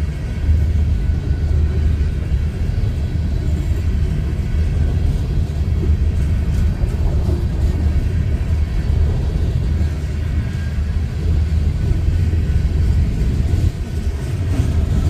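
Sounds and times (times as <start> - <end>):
steel train wheels rumbling on rails: 0.0 - 15.0.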